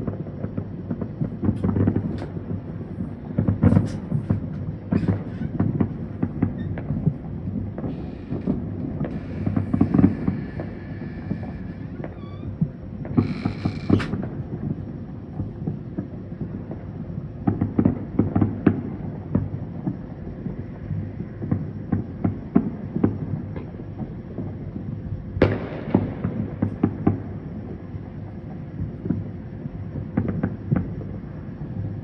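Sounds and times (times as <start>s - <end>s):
fireworks popping and banging: 0.0s - 32.0s.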